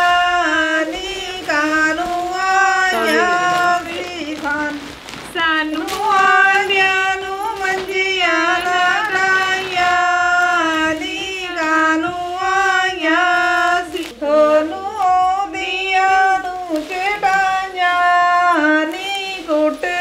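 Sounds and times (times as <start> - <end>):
woman singing: 0.0 - 20.0.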